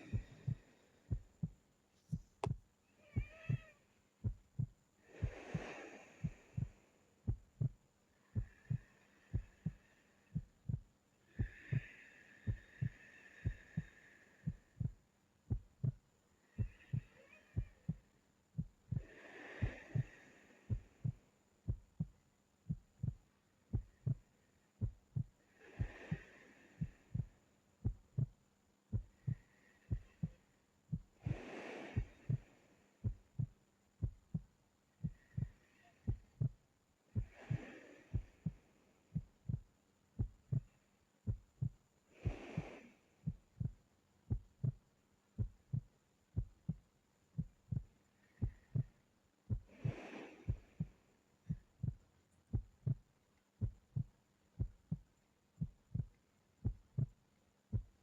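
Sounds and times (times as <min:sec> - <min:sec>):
slow breathing: 0:00.0 - 0:02.6, 0:03.2 - 0:22.1, 0:22.7 - 0:58.0
heartbeat thumps: 0:00.0 - 0:07.8, 0:08.4 - 0:36.6, 0:37.2 - 0:58.0.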